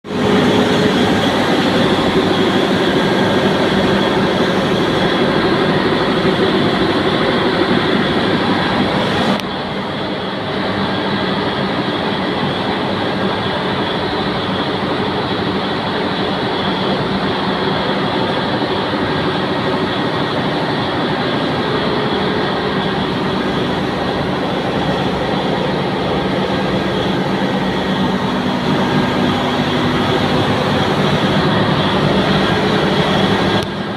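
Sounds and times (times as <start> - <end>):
air compressor running: 0.1 - 33.9.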